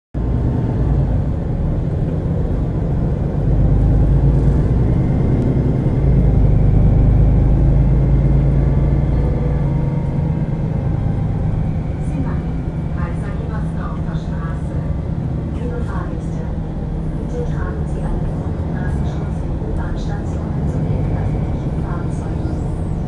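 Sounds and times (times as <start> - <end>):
bus diesel engine drone: 0.2 - 23.0.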